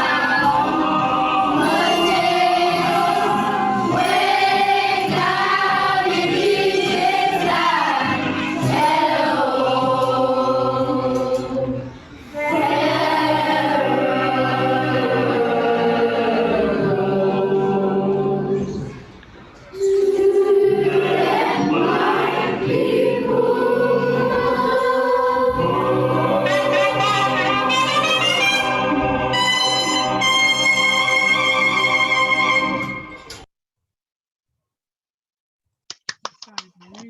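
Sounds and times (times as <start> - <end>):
children's choir singing: 0.0 - 33.3.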